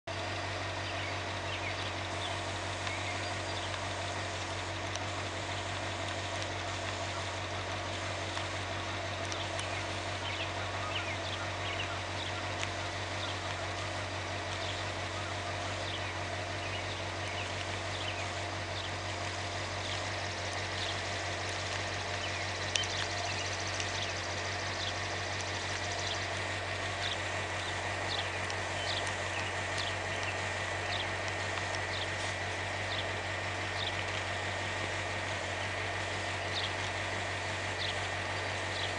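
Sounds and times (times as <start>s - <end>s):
car engine idling: 0.0s - 38.9s
birds chirping: 0.1s - 38.9s.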